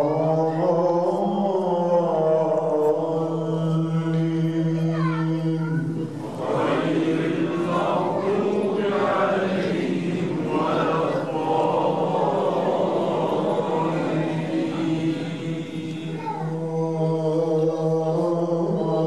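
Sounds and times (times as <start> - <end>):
man chanting through microphone: 0.0 - 19.0
many voices calling out together: 0.0 - 19.0.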